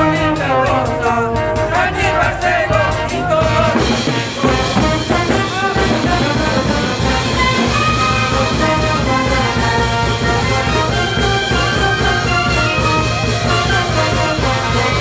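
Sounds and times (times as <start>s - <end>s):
drum kit and bass drum: 0.0s - 15.0s
saxophones: 0.0s - 15.0s
trumpets: 0.0s - 15.0s.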